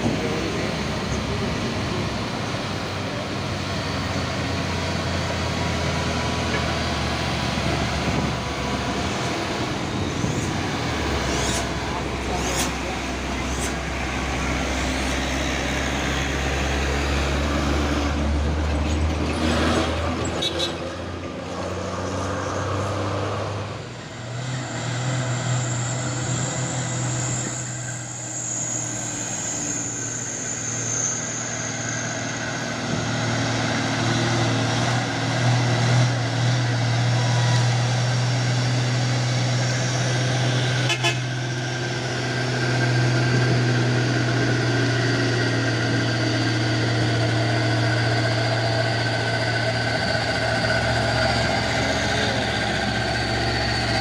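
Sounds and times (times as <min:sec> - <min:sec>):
heavy truck engine running: 0:00.0 - 0:54.0.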